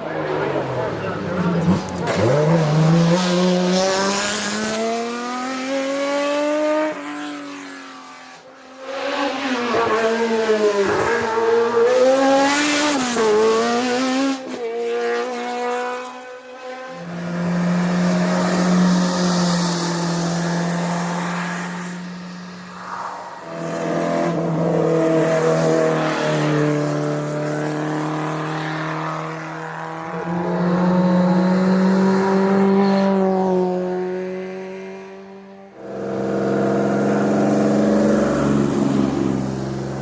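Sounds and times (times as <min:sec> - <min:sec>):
racing car engines revving: 0:00.0 - 0:40.0.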